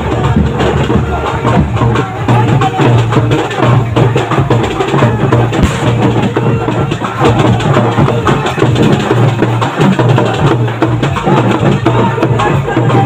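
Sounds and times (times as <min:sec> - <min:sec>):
loud dense drumming: 0:00.0 - 0:13.0.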